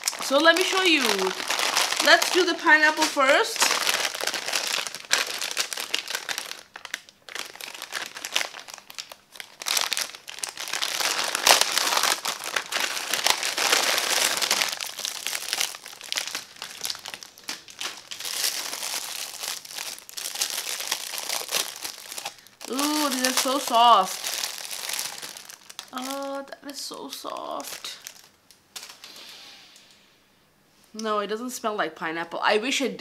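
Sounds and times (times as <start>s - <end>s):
plastic packaging crinkling: 0.0s - 29.3s.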